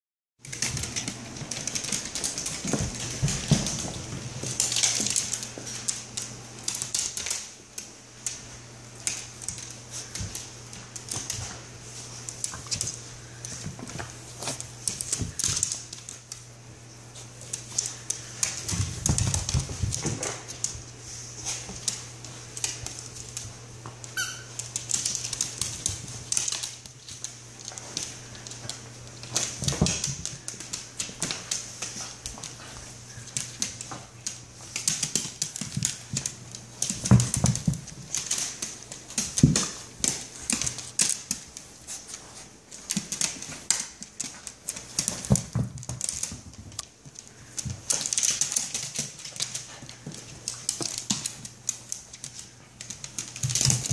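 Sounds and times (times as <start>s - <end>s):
dog claws clicking on wood floor: 0.4s - 53.9s.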